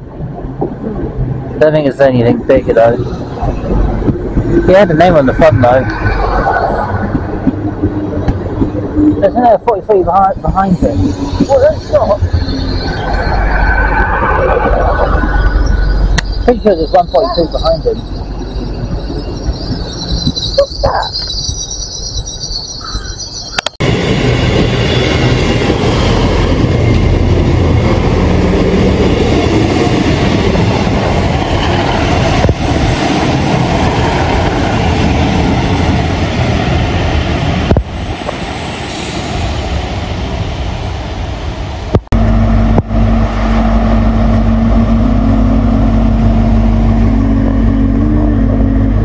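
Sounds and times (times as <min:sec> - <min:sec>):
diesel engine drone: 0:00.0 - 0:49.0
train wheel and body rumble: 0:00.0 - 0:49.0.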